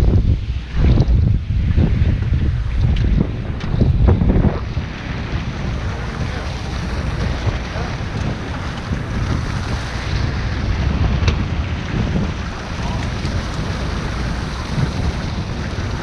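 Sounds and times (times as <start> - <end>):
sea water churning along hull: 0.0 - 16.0
wind buffeting microphone: 0.0 - 16.0.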